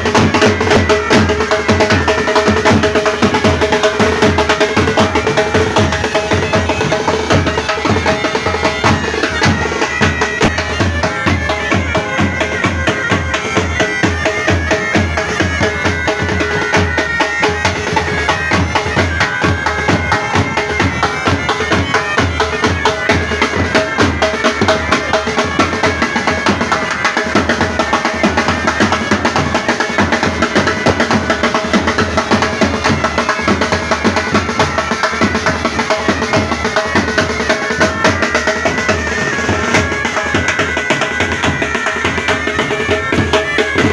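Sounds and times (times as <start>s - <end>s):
bagpipes with drone: 0.0s - 43.9s
drums beating: 0.0s - 43.9s.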